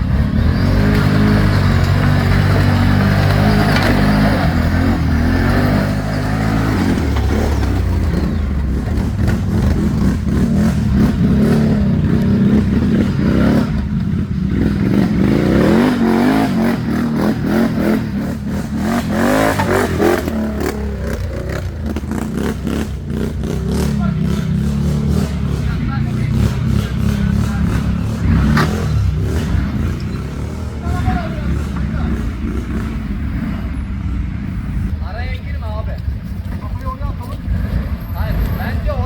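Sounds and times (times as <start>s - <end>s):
atv engine revving: 0.0s - 39.0s.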